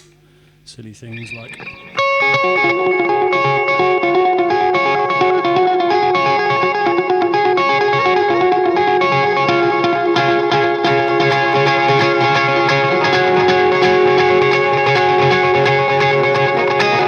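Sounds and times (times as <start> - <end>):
clean electric guitar playing: 0.0 - 17.0.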